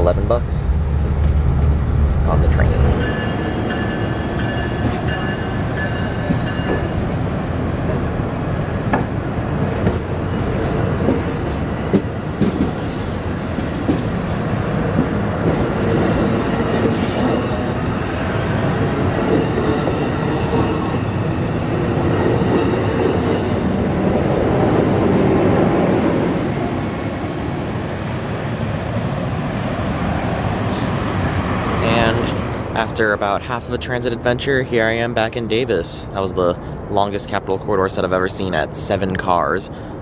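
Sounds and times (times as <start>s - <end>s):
train wheels rolling on rails: 0.1s - 33.2s.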